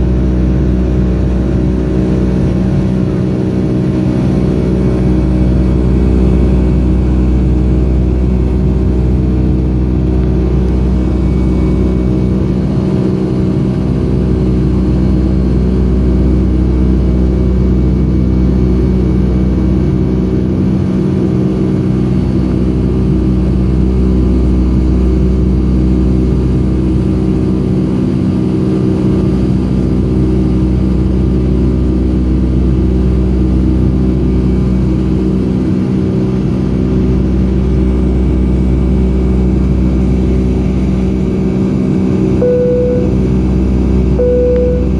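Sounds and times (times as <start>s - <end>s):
jet engines droning in cabin: 0.0s - 44.9s.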